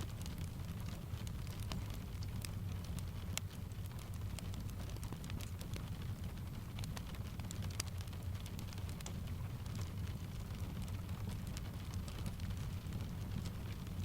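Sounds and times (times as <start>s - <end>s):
fireplace crackling and popping: 0.0s - 14.0s
steady rain: 0.0s - 14.0s.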